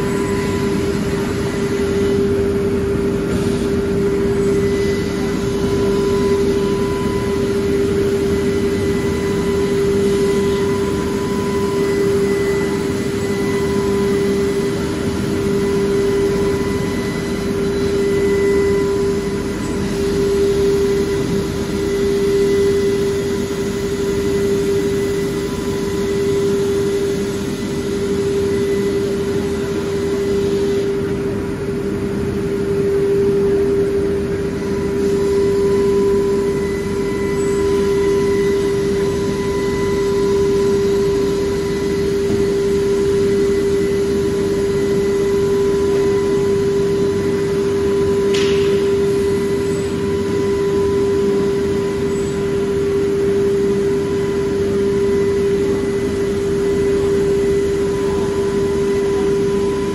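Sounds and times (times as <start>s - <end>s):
machine hum with high tone: 0.0s - 59.9s.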